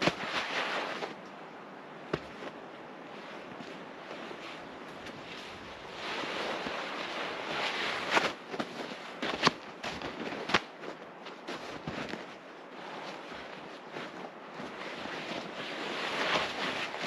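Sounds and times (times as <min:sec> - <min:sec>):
rustling and handling noise: 0:00.0 - 0:17.0.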